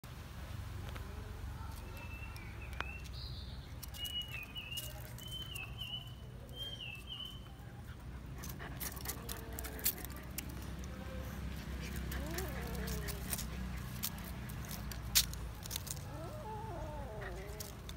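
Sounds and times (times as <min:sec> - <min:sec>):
paws scuffling on paving and leaves: 0:00.8 - 0:17.9.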